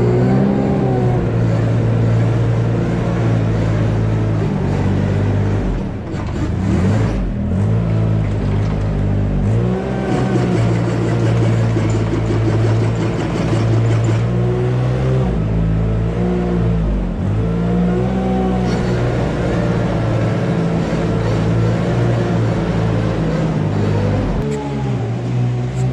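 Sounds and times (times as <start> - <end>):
heavy engine revving: 0.0 - 25.9.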